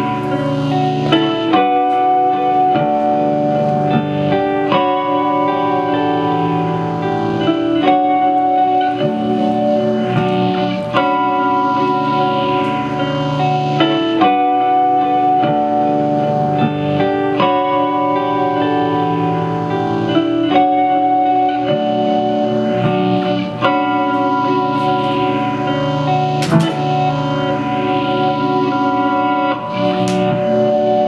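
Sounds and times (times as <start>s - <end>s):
ambient electric guitar loops: 0.0s - 31.0s.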